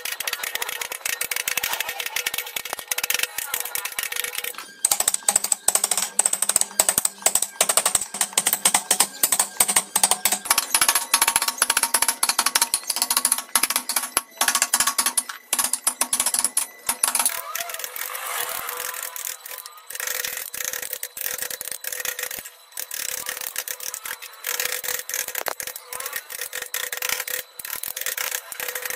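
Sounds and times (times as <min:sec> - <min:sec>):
wood chipping: 0:00.0 - 0:28.9.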